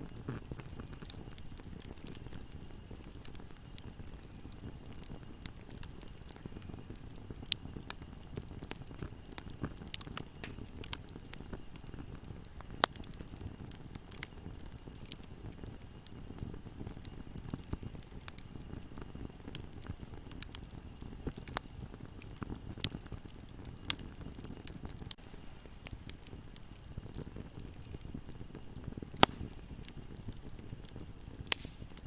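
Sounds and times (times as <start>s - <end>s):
low rumble of burning: 0.0s - 32.0s
wood fire crackling and popping: 0.0s - 32.0s.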